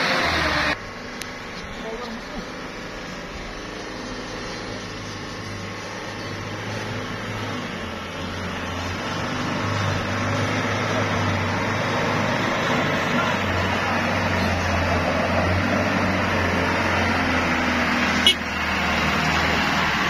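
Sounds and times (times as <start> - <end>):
diesel truck engine approaching: 0.0 - 20.0.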